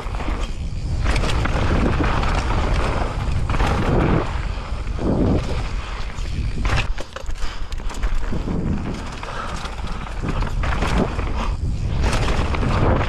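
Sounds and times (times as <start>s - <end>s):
wind buffeting microphone: 0.0s - 7.0s, 7.9s - 13.0s
bike clattering over bumps: 0.0s - 13.0s
tyres rumbling on dirt: 0.0s - 13.0s.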